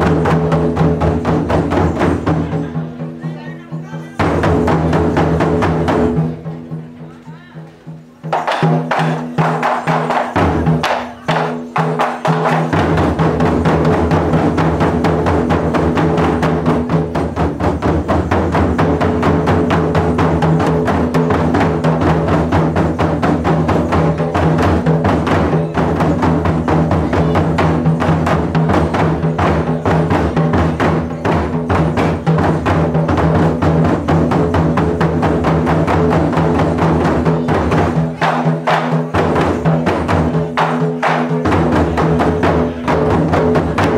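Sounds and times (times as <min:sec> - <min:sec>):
taiko drumming: 0:00.0 - 0:43.9.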